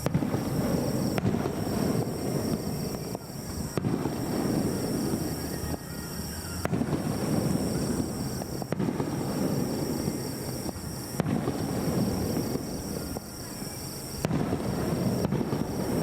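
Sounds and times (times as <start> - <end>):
fireworks bursting: 0.0 - 16.0.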